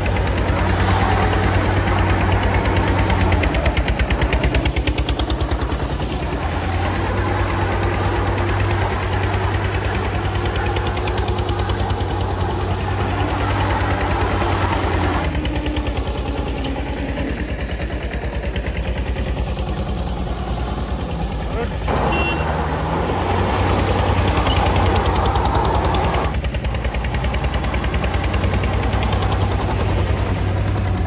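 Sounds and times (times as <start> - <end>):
diesel engines chugging under load: 0.0 - 31.0.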